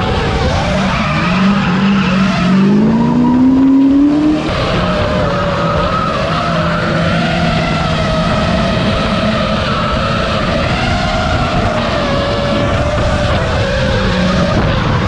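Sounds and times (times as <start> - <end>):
car engine revving: 0.0 - 15.0
tyres squealing and skidding: 0.0 - 15.0.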